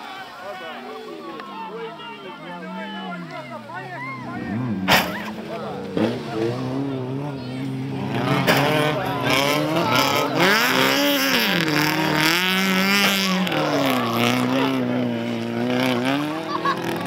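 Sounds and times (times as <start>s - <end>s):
racing car engine revving: 1.9s - 17.0s.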